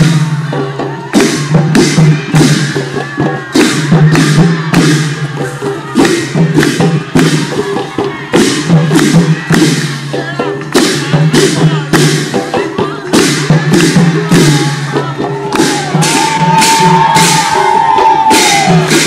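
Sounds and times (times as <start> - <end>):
percussion strokes: 0.0 - 19.0.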